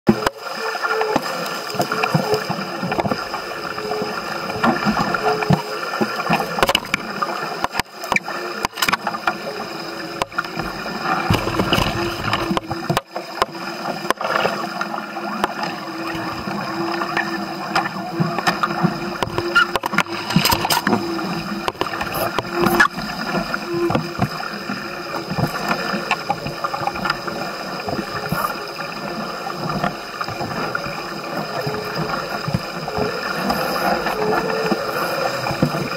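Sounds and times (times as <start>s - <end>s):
water splashing along hull: 0.1s - 35.9s.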